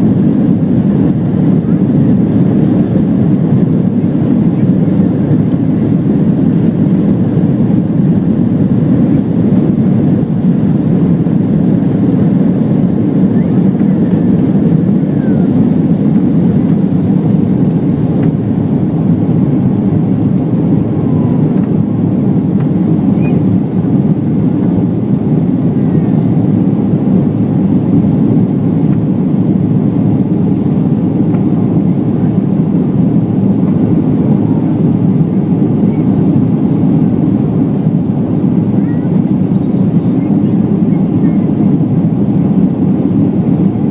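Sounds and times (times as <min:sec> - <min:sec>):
jet engine rumble in cabin: 0:00.0 - 0:43.9
rushing airflow: 0:00.0 - 0:43.9.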